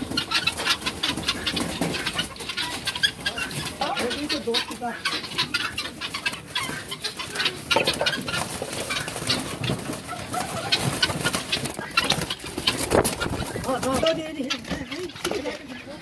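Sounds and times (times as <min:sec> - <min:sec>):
birds squawking and cackling: 0:00.0 - 0:16.0
wings flapping: 0:00.0 - 0:16.0.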